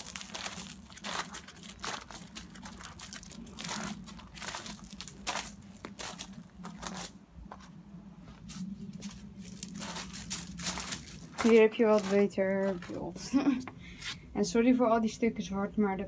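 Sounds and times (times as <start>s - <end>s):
rustling and crackling: 0.0s - 14.2s
steady low hum: 0.0s - 16.0s.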